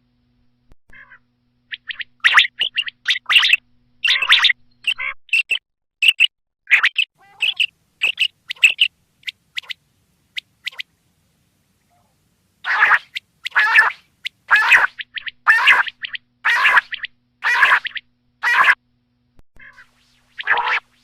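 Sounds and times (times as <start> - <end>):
quail calling: 0.9 - 10.9, 11.9 - 18.8, 19.6 - 21.0.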